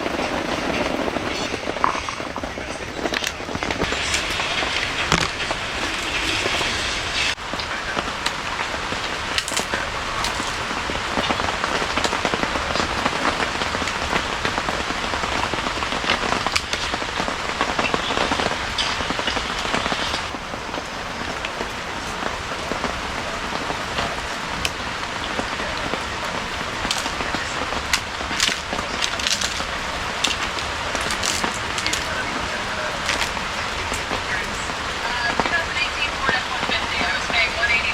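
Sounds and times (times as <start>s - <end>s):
heavy rain falling: 0.0s - 37.9s
raindrops tapping close by: 0.0s - 37.9s.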